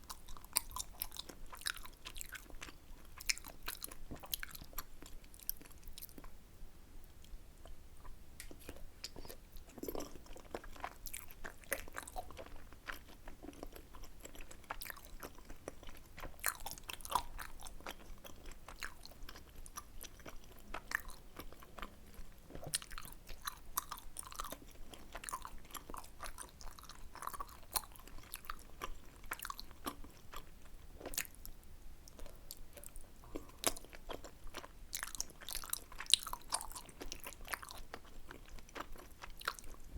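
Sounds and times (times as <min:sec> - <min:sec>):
chewing and biting food: 0:00.0 - 0:06.3, 0:08.5 - 0:39.9.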